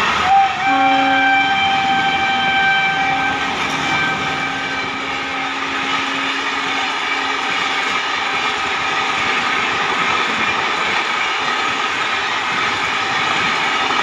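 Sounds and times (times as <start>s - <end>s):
train rushing past: 0.0s - 14.0s.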